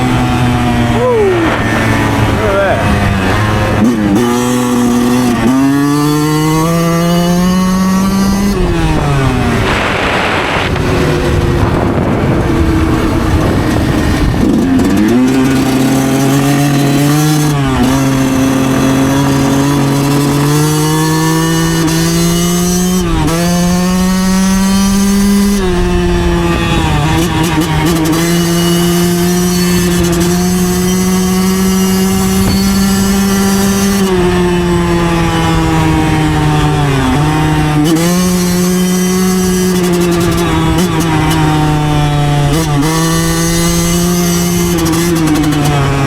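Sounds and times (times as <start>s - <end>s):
two-stroke engine running: 0.0s - 46.0s.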